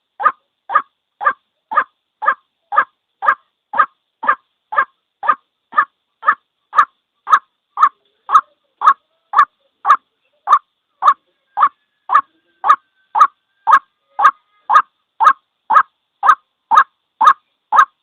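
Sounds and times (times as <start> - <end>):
waterhen calling harsh notes: 0.2 - 18.0.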